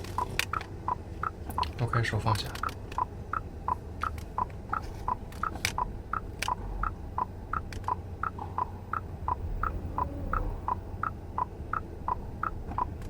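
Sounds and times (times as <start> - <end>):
car indicator tick-tock: 0.0 - 1.8, 2.5 - 13.0
sharp clicks: 0.0 - 1.8, 2.4 - 13.0.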